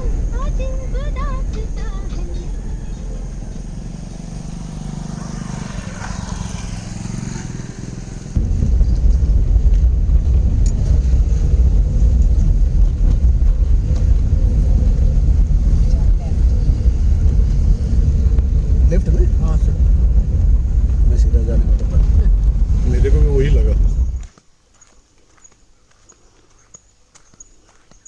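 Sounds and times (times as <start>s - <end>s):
vehicle engine and road rumble: 0.0s - 24.4s.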